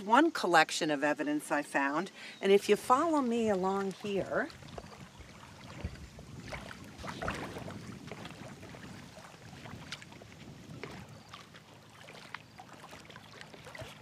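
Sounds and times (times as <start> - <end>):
river water lapping on rocks: 1.4 - 14.0.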